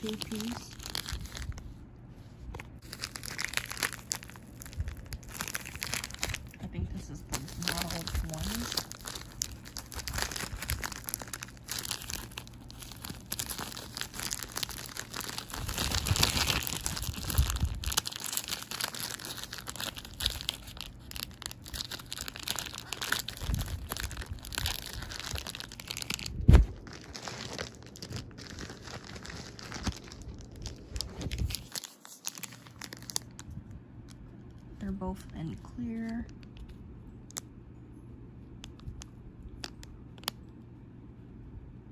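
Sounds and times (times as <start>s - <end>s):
plastic packaging crinkling: 0.0s - 1.8s, 2.5s - 34.6s, 38.6s - 40.4s.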